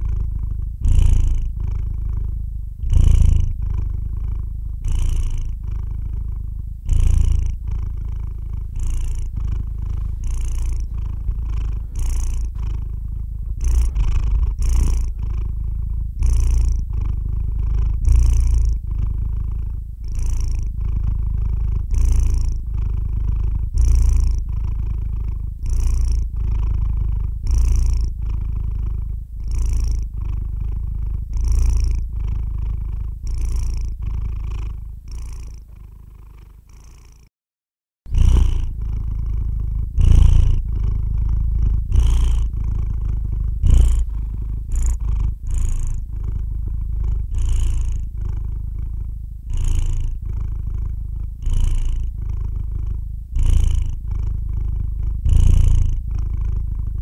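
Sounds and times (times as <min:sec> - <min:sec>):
cat purring: 0:00.0 - 0:37.3, 0:38.1 - 0:57.0.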